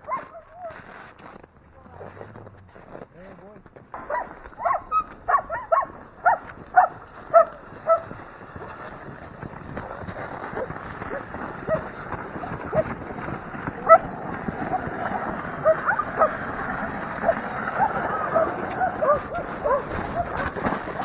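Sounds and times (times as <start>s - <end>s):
sled dogs barking and yipping: 0.0s - 1.0s, 3.9s - 21.0s.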